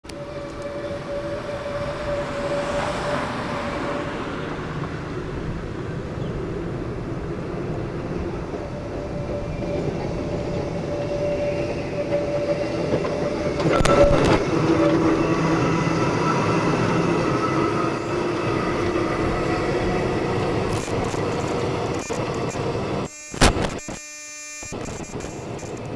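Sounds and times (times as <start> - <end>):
tram humming and rumbling: 0.0 - 23.1, 24.8 - 25.9.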